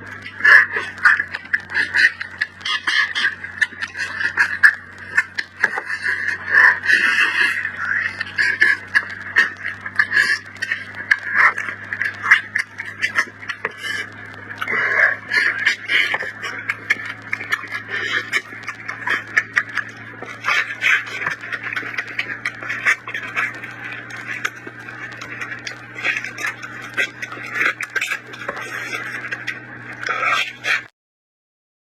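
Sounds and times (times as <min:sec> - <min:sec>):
chewing and crunching: 0:00.0 - 0:30.9
low hum: 0:00.0 - 0:30.9
wet mouth noises: 0:00.0 - 0:30.9.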